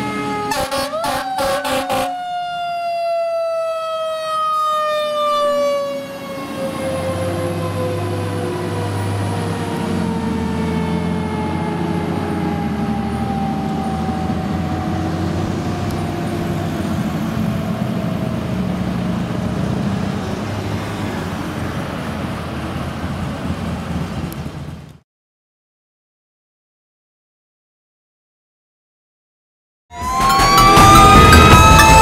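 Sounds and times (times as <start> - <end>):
fire engine siren winding down: 0.0 - 23.8, 29.9 - 32.0
passing traffic: 0.0 - 25.0, 30.0 - 32.0
truck engine rumble: 0.0 - 25.0, 30.0 - 32.0.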